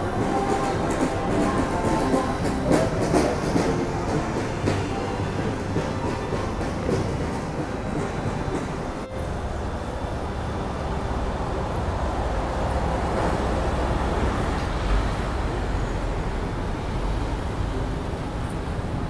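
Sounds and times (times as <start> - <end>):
city road traffic: 0.0 - 19.0.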